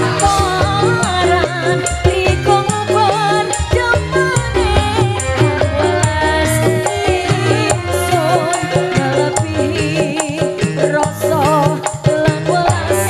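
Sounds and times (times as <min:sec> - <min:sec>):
live band playing: 0:00.0 - 0:13.0
drum beat: 0:00.2 - 0:10.8.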